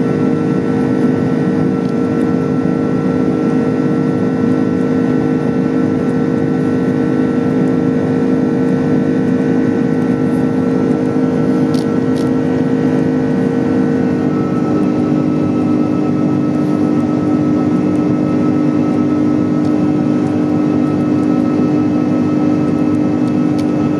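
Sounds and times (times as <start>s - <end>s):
constant tonal hum: 0.0s - 23.9s
engine and airflow rush: 0.0s - 23.9s.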